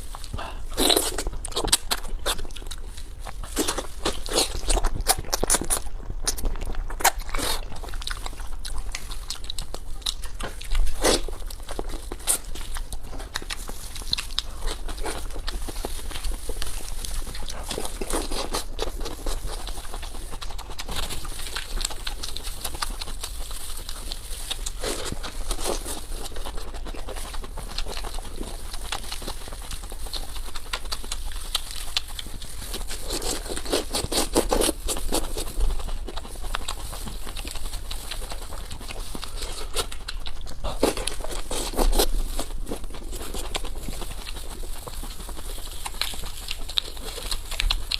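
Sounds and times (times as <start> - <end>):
chewing and mouth smacking: 0.0 - 47.9
food crunching: 0.0 - 47.9.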